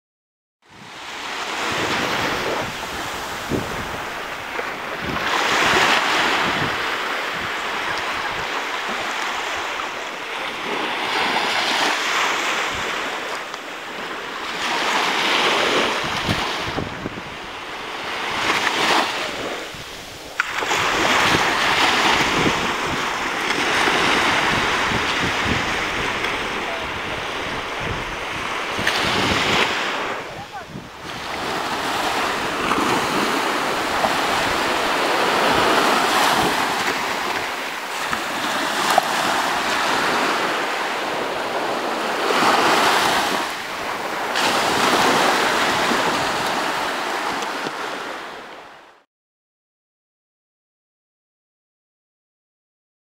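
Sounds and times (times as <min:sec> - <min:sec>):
waves washing up shore: 0:00.7 - 0:49.0.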